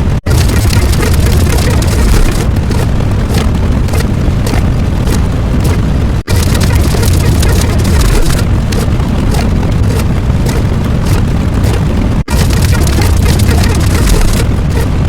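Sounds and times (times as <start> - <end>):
loud bassy rumbling noise: 0.0 - 15.0.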